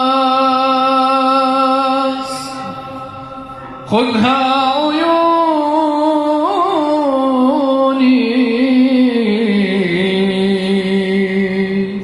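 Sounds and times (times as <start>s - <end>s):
person singing a long note: 0.0s - 12.0s.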